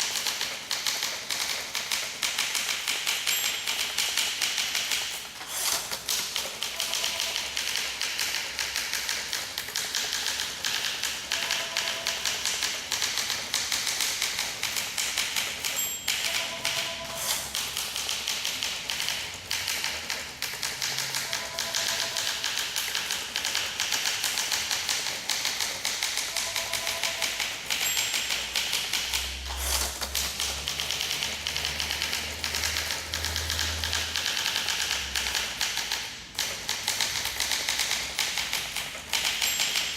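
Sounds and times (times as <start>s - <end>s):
typewriter keystroke clacks: 0.0s - 39.9s.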